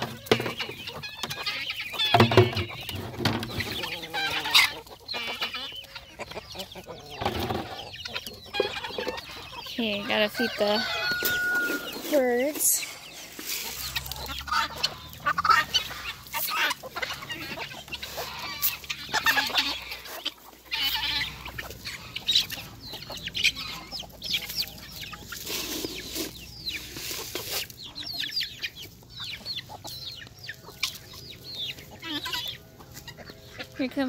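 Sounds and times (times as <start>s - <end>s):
chickens clucking: 0.0s - 34.0s
poultry calls: 0.0s - 34.0s.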